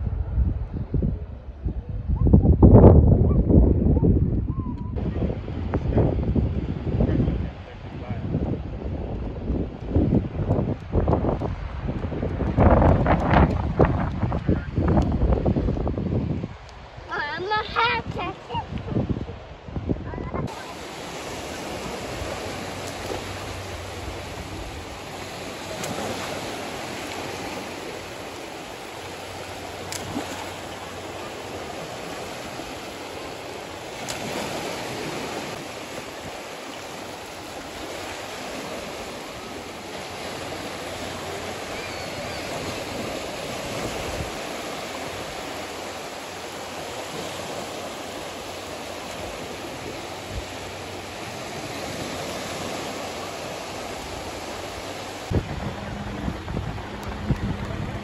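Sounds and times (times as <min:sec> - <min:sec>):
small waves washing up shore: 0:05.0 - 0:58.0.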